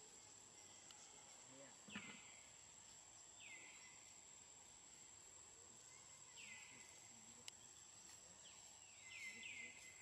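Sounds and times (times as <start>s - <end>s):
faint outdoor ambience: 0.0s - 10.0s.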